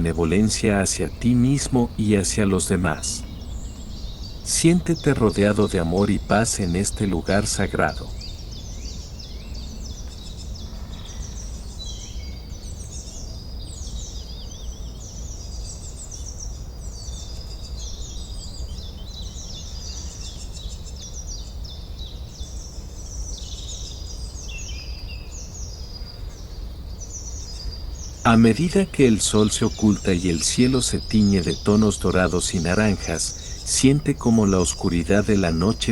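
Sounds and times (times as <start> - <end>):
low background noise: 0.0 - 35.9
songbirds chirping and trilling: 0.0 - 35.9.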